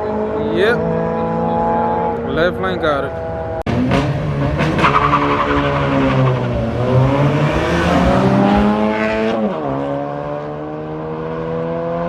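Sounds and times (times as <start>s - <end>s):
performance car engines revving: 0.0s - 12.0s.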